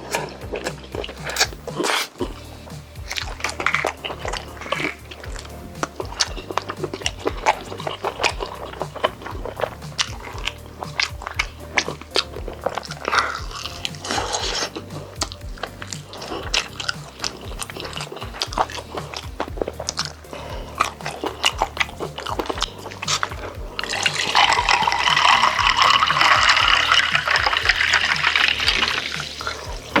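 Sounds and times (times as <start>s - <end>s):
chewing and biting food: 0.0s - 30.0s
drink being poured: 0.0s - 30.0s.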